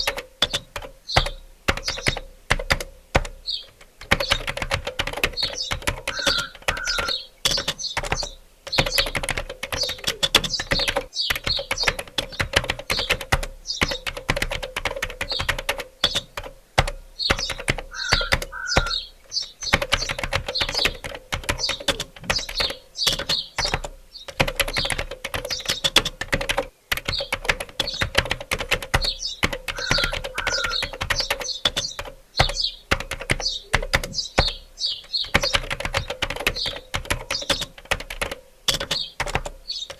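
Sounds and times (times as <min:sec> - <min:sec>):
typing on keyboard: 0:00.0 - 0:19.0, 0:19.6 - 0:39.9.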